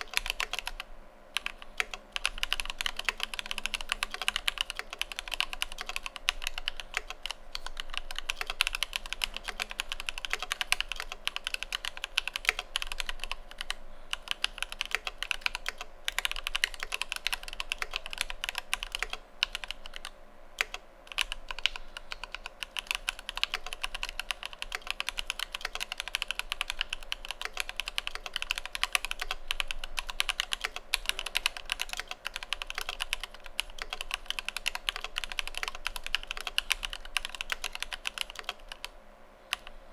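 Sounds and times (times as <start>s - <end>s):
fast mechanical keyboard typing: 0.0s - 39.8s.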